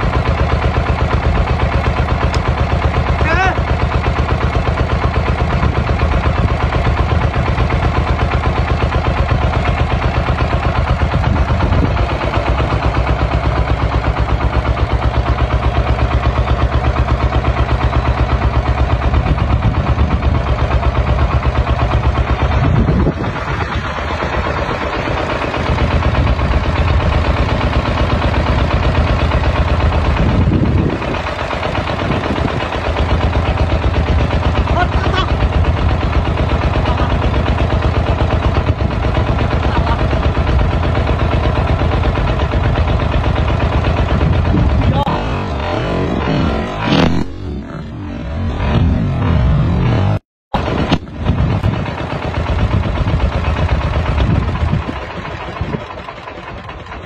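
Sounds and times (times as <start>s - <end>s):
tractor engine thumping: 0.0s - 47.8s, 50.6s - 57.0s.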